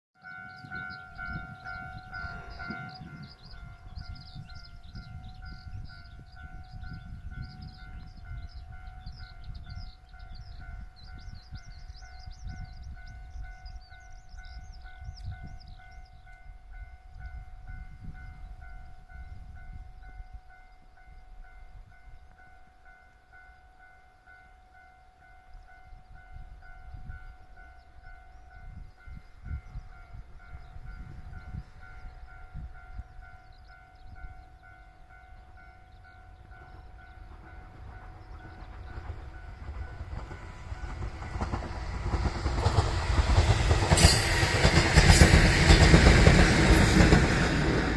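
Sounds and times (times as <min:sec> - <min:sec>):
electric train rumbling past: 0:00.2 - 0:47.9.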